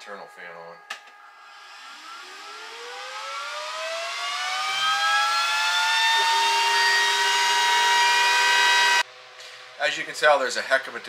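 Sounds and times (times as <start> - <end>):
steady tone: 0.0 - 9.1
exhaust fan whine spinning up: 0.0 - 11.0.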